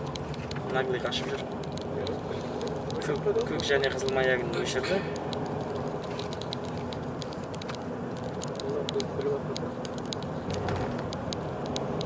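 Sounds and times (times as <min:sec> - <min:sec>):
car engine and road noise: 0:00.0 - 0:12.0
light irregular clicks: 0:00.0 - 0:12.0.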